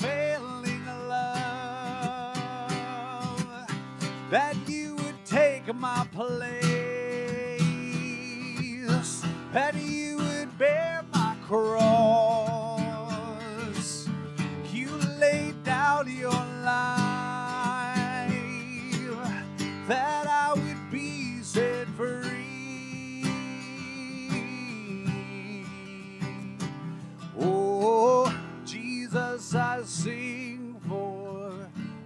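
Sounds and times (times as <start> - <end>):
man singing worship song: 0.0 - 26.7, 27.3 - 31.7
strummed acoustic guitar: 0.0 - 32.0.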